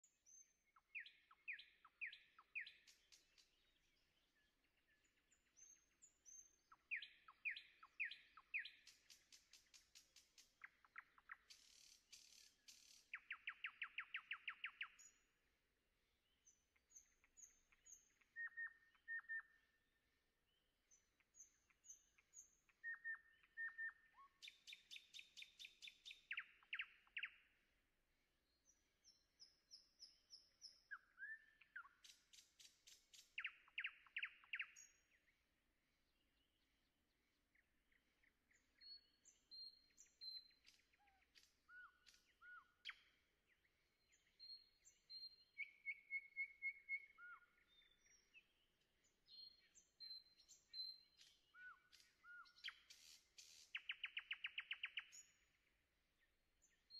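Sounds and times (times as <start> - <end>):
birdsong chirps and trills: 0.0 - 27.8, 28.4 - 56.9.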